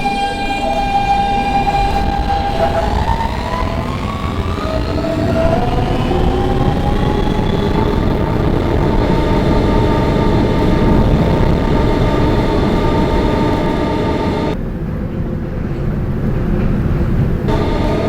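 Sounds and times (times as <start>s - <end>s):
traction motor whine: 0.0s - 14.6s, 17.5s - 18.0s
wheels rumbling on rails: 0.0s - 18.0s.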